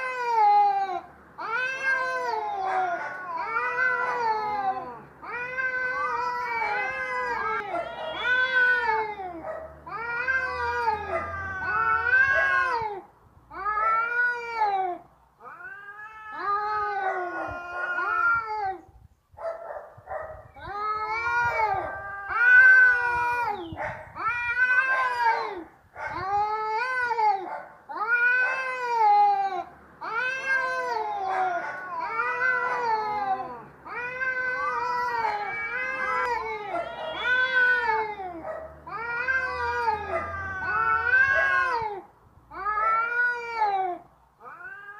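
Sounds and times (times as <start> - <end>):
cat yowling: 0.0 - 13.0, 13.6 - 18.8, 20.6 - 42.0, 42.6 - 44.9.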